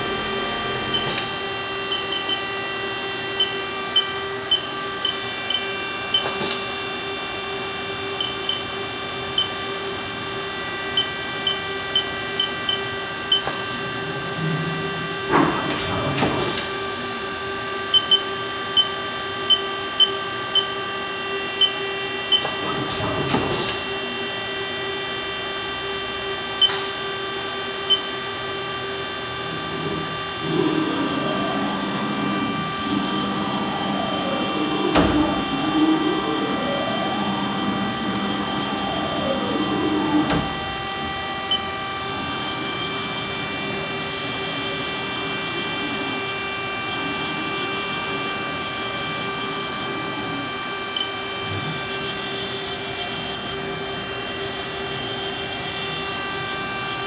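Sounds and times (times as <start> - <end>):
machining centre whine: 0.0 - 57.0.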